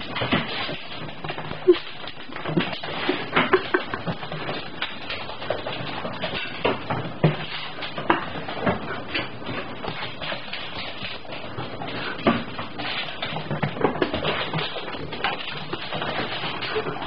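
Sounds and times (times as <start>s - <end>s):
claws clicking on hardwood floor: 0.0s - 17.0s.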